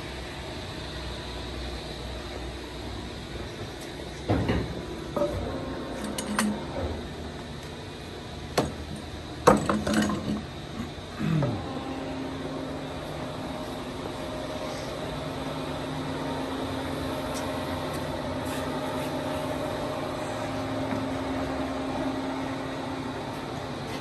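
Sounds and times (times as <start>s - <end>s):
steady machinery hum: 0.0s - 24.0s.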